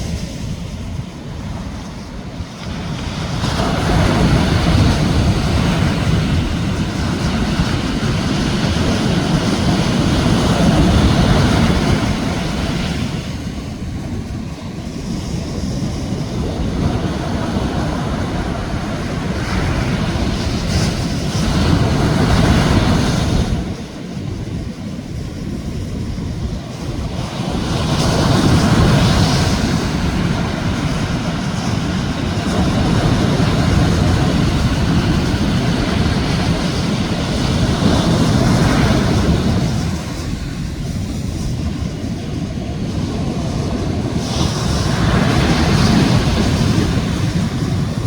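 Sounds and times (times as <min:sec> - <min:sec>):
waves breaking on a beach: 0:00.0 - 0:48.0.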